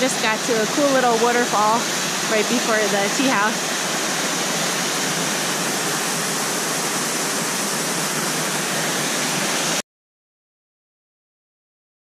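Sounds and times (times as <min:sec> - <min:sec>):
waterfall rushing onto rocks: 0:00.0 - 0:09.8.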